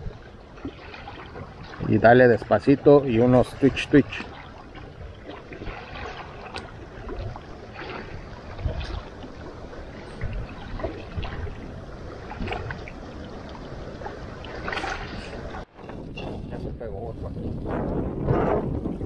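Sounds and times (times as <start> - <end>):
small waves lapping on rocks: 0.0 - 16.1
wind rumble on microphone: 0.0 - 19.0.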